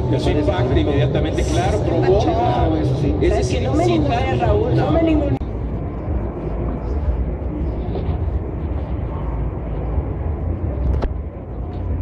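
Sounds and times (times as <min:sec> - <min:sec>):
indoor hall background din: 0:00.0 - 0:12.0.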